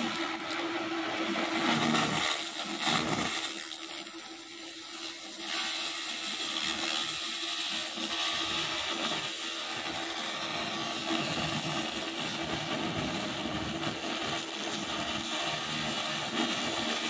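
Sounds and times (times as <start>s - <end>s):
laser machine hum with hiss: 0.0s - 17.0s.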